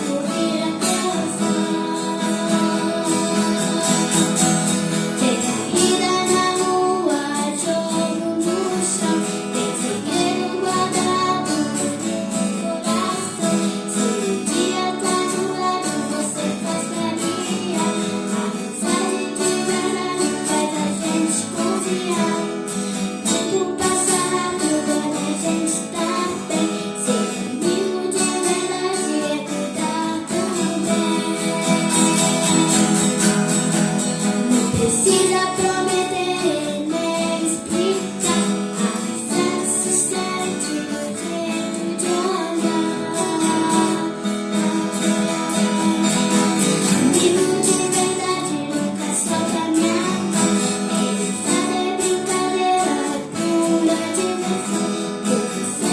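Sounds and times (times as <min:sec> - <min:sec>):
acoustic guitar strumming: 0:00.0 - 0:55.9
woman singing: 0:00.0 - 0:55.9.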